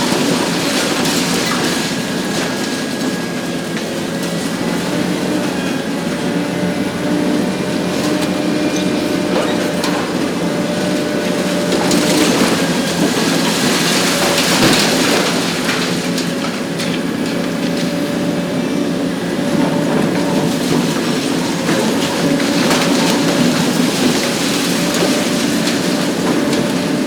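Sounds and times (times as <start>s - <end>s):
debris crackling and clattering: 0.0s - 4.8s, 7.6s - 18.0s, 19.4s - 27.0s
excavator diesel engine running: 0.0s - 27.0s
hydraulic shear crushing concrete: 0.0s - 27.0s.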